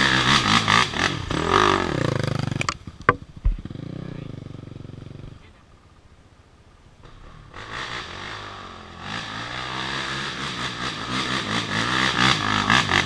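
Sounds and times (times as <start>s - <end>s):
dirt bike engine revving: 0.0s - 5.4s, 7.1s - 13.0s.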